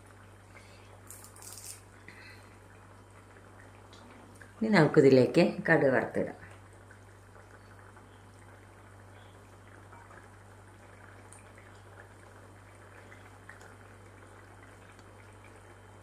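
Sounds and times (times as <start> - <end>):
curry bubbling: 0.0 - 16.0
steady low hum: 0.0 - 16.0.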